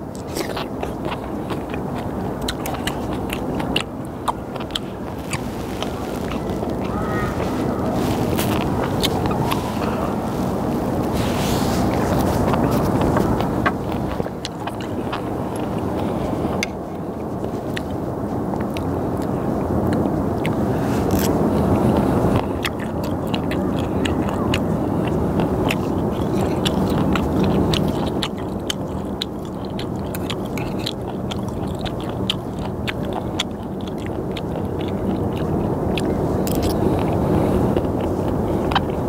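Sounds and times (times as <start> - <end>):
chewing: 0.0 - 39.0.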